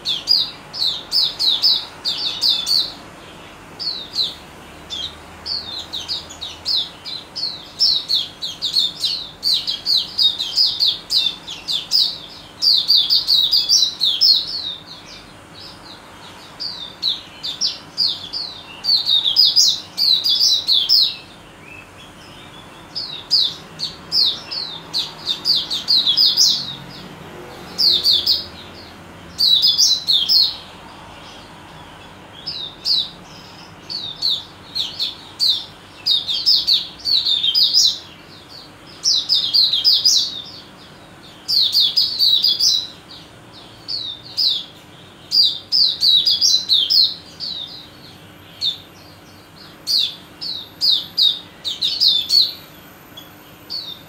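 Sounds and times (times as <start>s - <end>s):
bird twittering: 0.0s - 54.0s.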